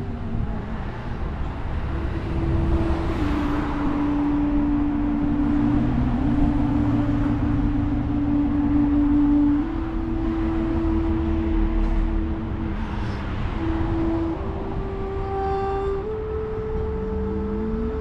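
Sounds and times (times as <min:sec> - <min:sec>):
steady low rumble: 0:00.0 - 0:18.0
violin and flute long notes: 0:00.0 - 0:18.0.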